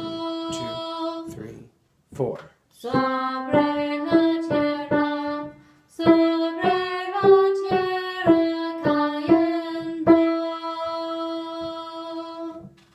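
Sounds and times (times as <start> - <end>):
person singing: 0.0 - 1.4, 2.8 - 12.7.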